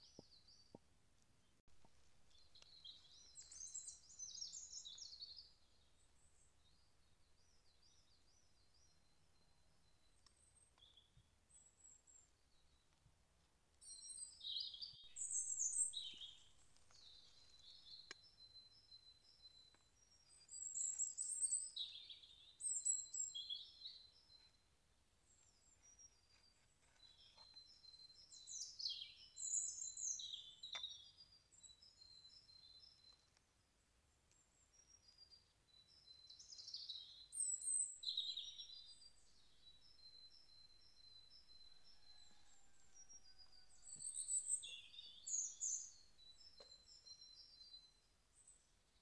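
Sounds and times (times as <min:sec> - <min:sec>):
songbirds chirping and trilling: 0:01.4 - 0:49.0.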